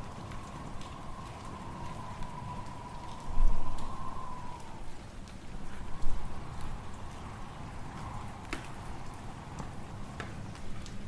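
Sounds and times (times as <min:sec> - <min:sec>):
faint wind whistle: 0:00.0 - 0:10.6
fireplace fire crackling: 0:00.0 - 0:11.0
wind rumbling: 0:00.0 - 0:11.0.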